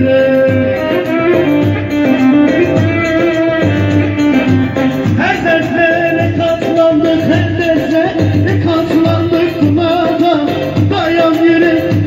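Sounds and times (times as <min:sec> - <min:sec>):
keyboard dance music: 0:00.0 - 0:12.0.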